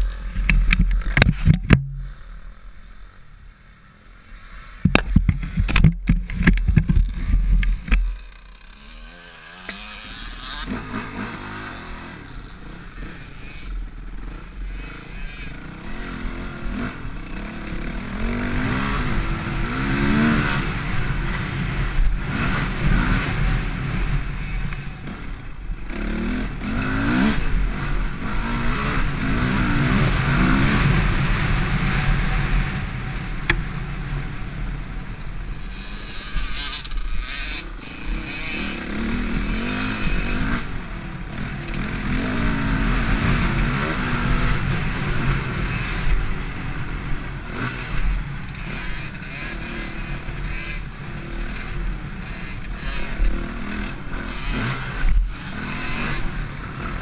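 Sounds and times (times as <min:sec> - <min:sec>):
dirt bike engine revving: 0:07.0 - 0:57.0.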